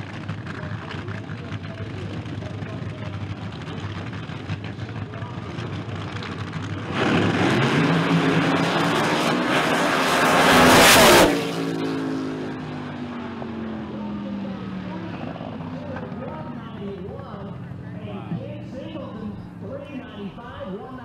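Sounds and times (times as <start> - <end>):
drag racing cars engines roaring: 0.0 - 21.0.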